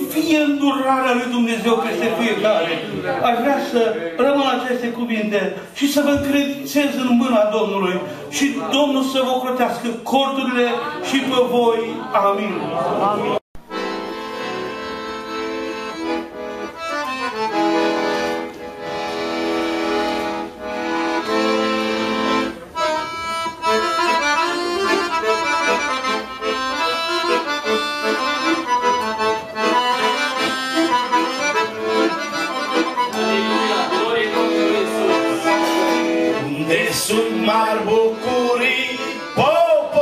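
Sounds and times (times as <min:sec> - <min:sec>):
piano accordion playing: 0:00.0 - 0:12.1, 0:13.1 - 0:40.0.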